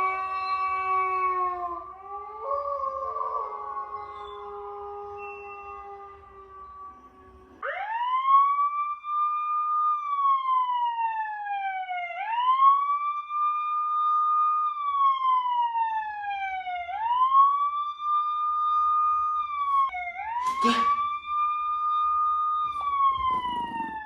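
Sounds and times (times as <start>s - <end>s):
wailing emergency siren: 0.0s - 24.0s.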